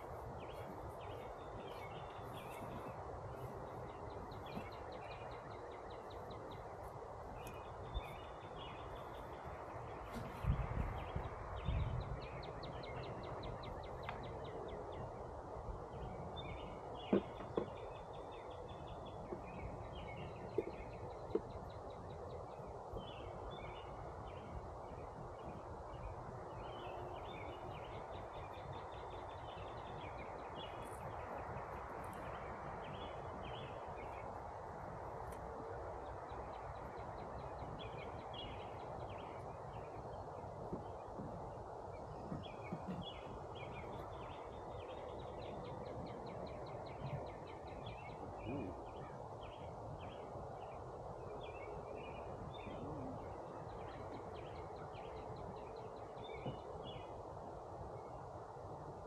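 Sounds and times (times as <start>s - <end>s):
songbirds trilling: 0.0s - 58.6s.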